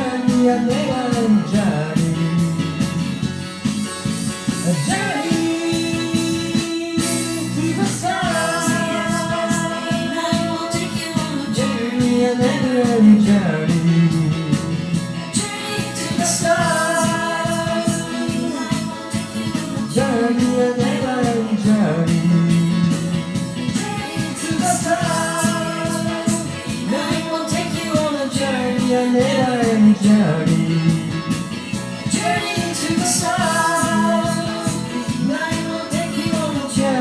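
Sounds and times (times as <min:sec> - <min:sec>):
guitar: 0:00.0 - 0:37.0
sliding lead melody: 0:00.0 - 0:37.0
steady drum beat: 0:00.2 - 0:37.0.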